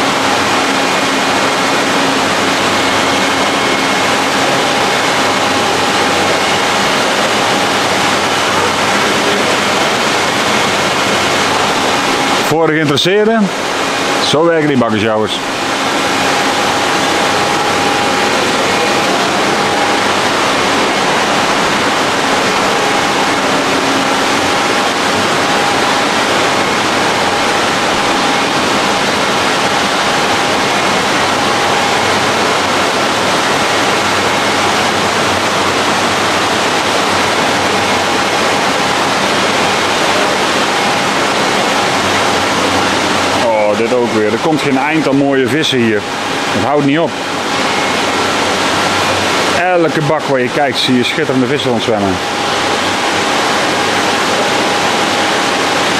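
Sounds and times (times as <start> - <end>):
faint steady hum: 0.0 - 55.9
water pouring and splashing: 0.0 - 55.9.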